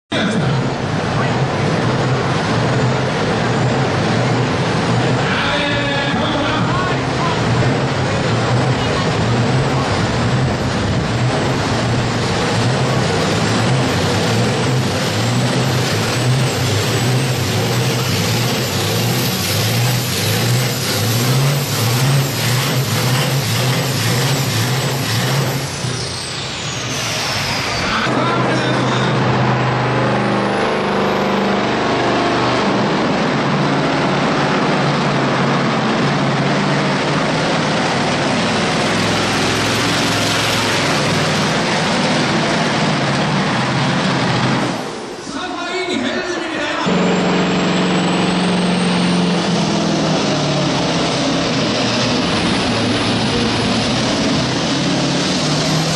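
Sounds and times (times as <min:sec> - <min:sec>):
second truck diesel revving: 0:00.1 - 0:45.3, 0:46.7 - 0:55.9
truck diesel engine working hard: 0:00.1 - 0:55.9.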